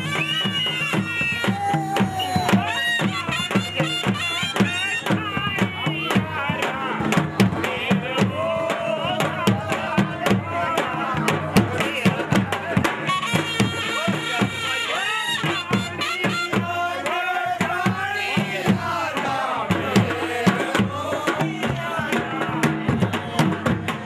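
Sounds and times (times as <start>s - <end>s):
barrel drums beating: 0.0s - 24.0s.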